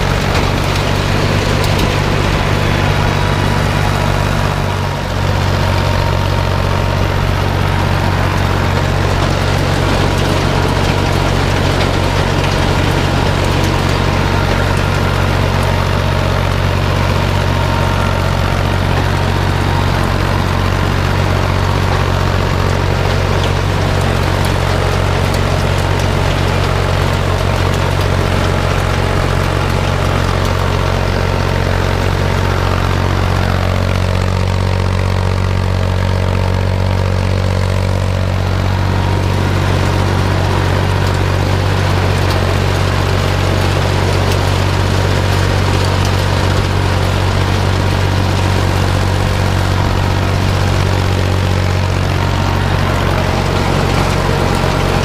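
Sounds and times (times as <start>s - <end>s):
machinery hum: 0.0s - 55.0s
tractor engine running: 0.0s - 55.0s.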